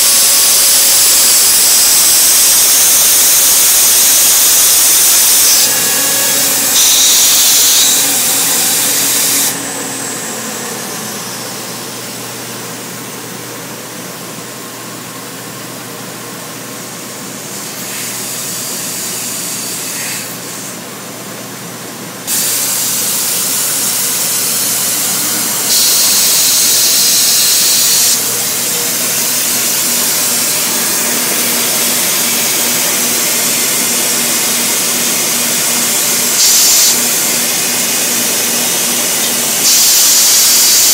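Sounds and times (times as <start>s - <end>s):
cnc router cutting wood: 0.0s - 14.0s, 17.6s - 20.9s, 22.2s - 40.9s.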